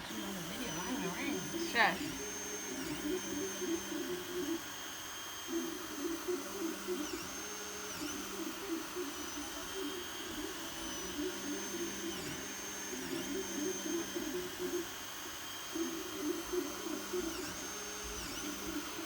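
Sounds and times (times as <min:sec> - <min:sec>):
stepper motors whirring and whining: 0:00.0 - 0:19.0.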